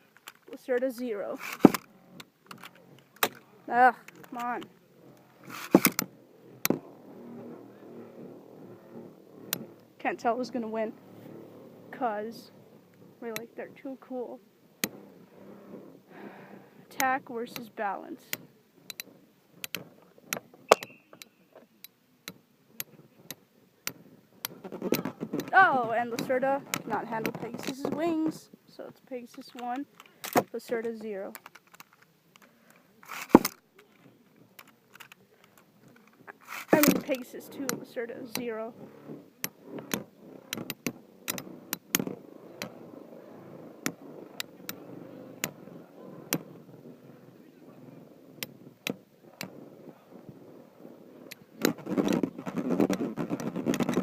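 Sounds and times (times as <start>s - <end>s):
faint steady whir: 0.0s - 54.0s.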